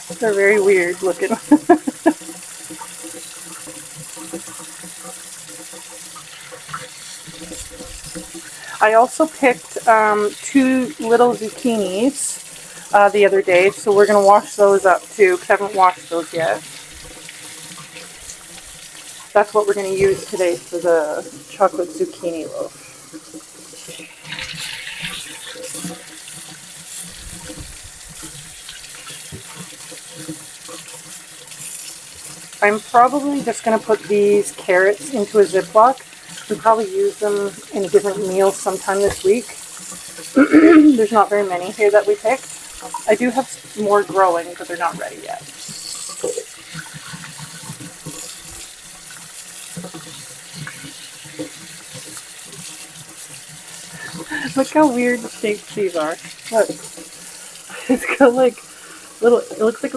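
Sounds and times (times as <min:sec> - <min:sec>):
faucet running into steel sink: 0:00.0 - 0:59.9
water splashing into colander: 0:00.0 - 0:59.9.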